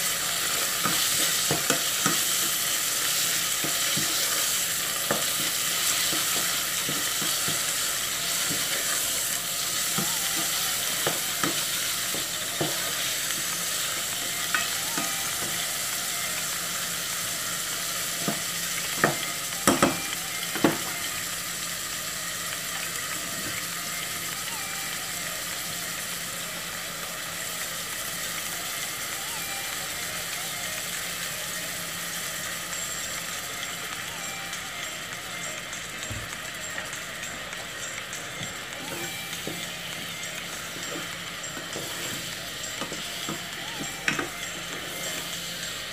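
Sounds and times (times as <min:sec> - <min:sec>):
chicken sizzling in a pan: 0:00.0 - 0:45.9.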